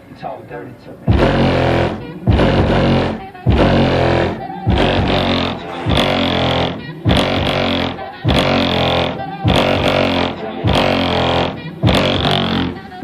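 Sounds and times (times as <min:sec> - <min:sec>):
bass-heavy rap music: 0:00.2 - 0:13.0.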